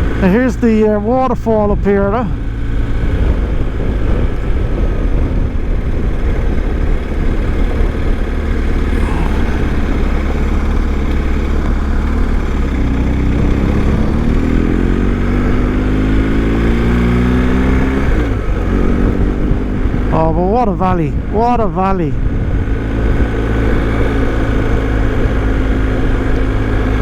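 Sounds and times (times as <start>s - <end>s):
low rumble: 0.0s - 23.4s
motorcycle engine accelerating: 0.0s - 27.0s.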